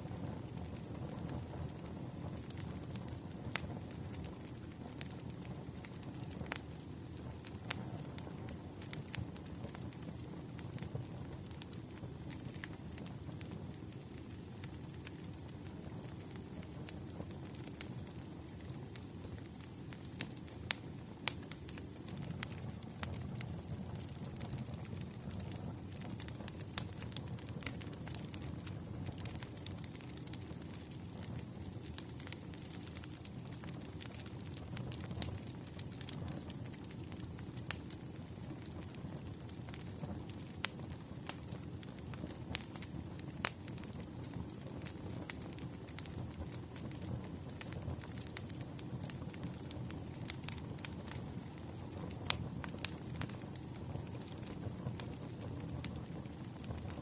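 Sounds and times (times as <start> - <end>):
sharp pops from fire: 0.0 - 57.0
wood fire crackling: 0.0 - 57.0.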